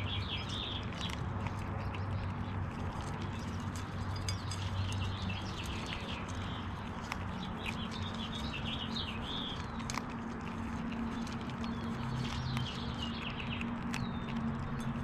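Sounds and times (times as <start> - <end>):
small birds twittering: 0.0 - 15.0
squirrels cracking seeds: 0.0 - 15.0.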